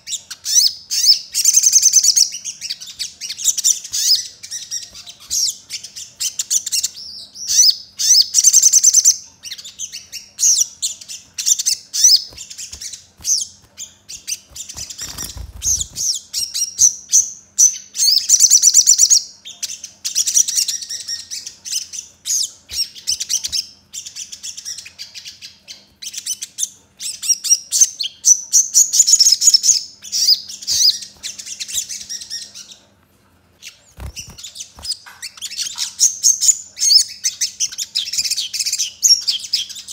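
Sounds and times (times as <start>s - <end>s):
bird singing chirps and trills: 0.0s - 32.9s, 33.6s - 39.9s.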